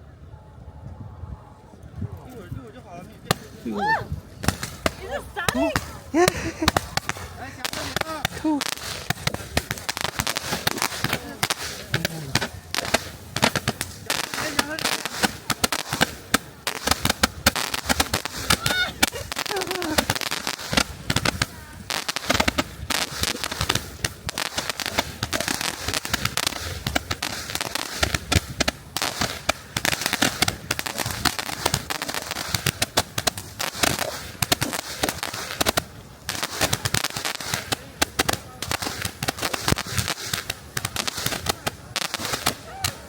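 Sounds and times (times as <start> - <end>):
firework crackling and popping: 3.2 - 43.0.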